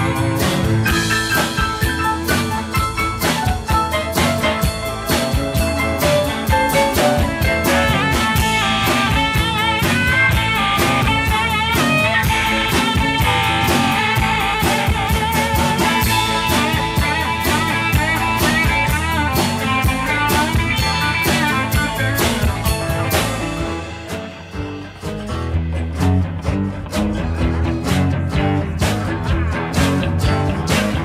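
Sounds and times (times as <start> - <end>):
drum kit beat: 0.0 - 31.0
electric bass: 0.0 - 31.0
electric guitar: 0.0 - 31.0
keyboard: 0.0 - 31.0
pedal steel guitar melody: 0.0 - 31.0.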